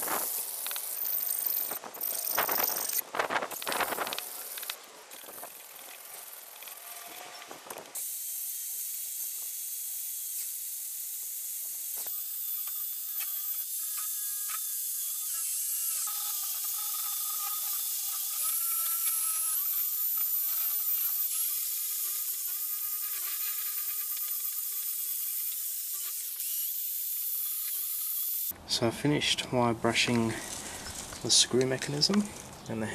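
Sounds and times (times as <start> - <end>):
drill motor whine: 0.0 - 28.5.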